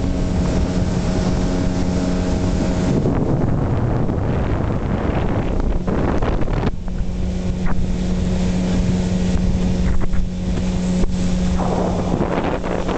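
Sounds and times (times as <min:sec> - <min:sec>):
boat engine running: 0:00.0 - 0:12.9
wind buffeting microphone: 0:00.0 - 0:12.9.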